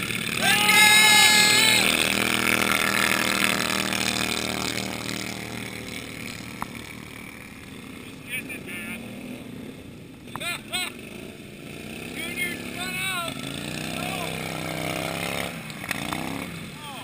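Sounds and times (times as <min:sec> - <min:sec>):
lawn tractor engine running hard: 0:00.0 - 0:17.0.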